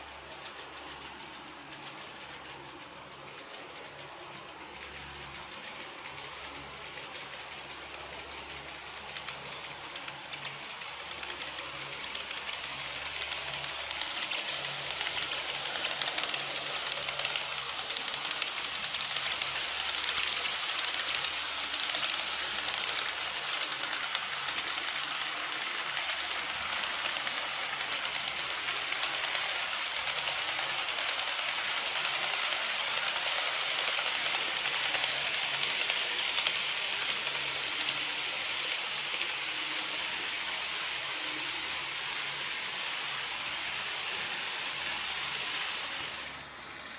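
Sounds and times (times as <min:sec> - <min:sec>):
model train wheels clattering: 0:00.0 - 0:46.9
high-pitched running hiss: 0:07.0 - 0:46.9.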